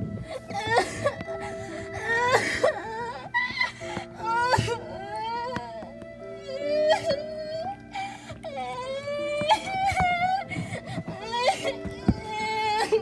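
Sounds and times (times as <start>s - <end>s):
slow background music: 0.0s - 13.0s
girl wailing and whimpering: 0.3s - 13.0s.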